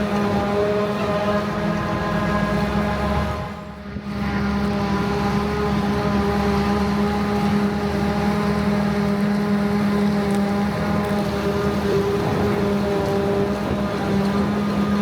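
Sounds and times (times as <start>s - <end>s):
harvester diesel engine droning: 0.0s - 15.0s.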